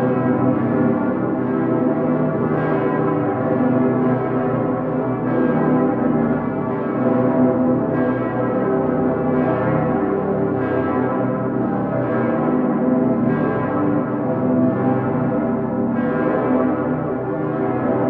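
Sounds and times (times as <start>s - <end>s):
large church bells ringing: 0.0s - 18.0s.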